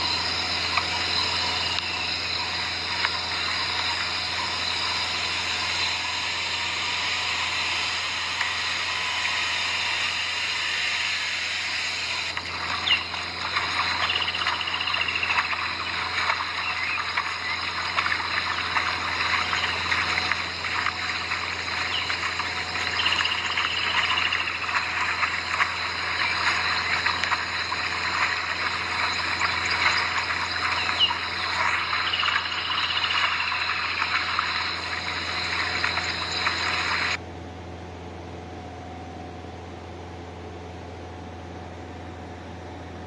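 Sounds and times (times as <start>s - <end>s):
chorus of frogs calling: 0.0s - 10.6s, 11.8s - 37.2s.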